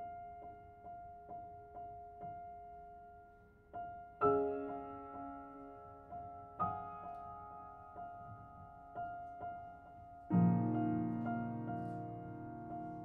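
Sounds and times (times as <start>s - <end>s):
piano chords ringing: 0.0s - 13.0s
solo piano playing softly: 0.0s - 13.0s.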